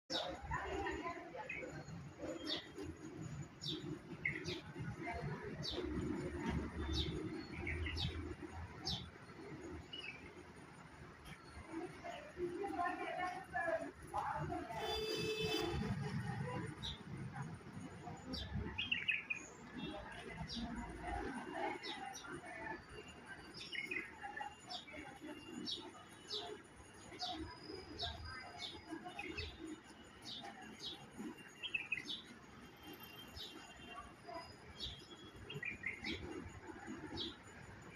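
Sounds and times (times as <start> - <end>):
small birds chirping: 0.1 - 15.8, 17.7 - 37.9.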